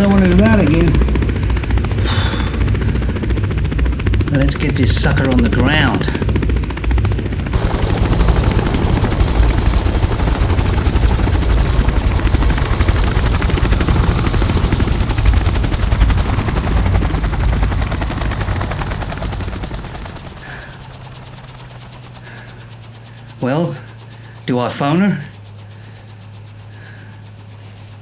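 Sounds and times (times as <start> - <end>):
helicopter rotor chopping: 0.0 - 28.0.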